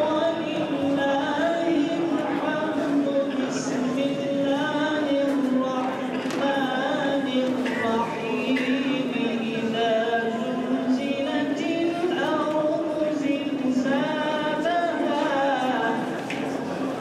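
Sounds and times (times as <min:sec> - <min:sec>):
person singing unaccompanied: 0:00.0 - 0:16.2.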